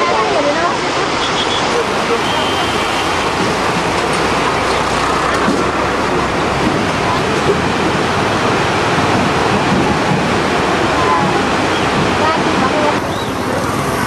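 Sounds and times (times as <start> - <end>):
fast river water rushing: 0.0 - 14.0.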